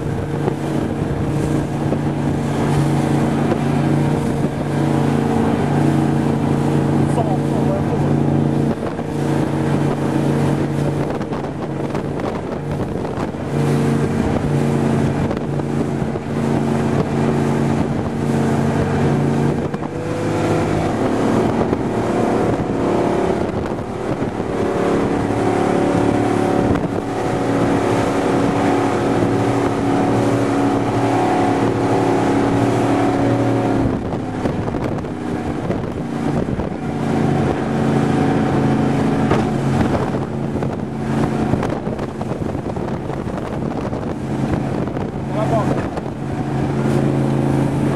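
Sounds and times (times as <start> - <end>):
powerboat engine running hard: 0.0 - 47.9
wind buffeting microphone: 0.0 - 47.9.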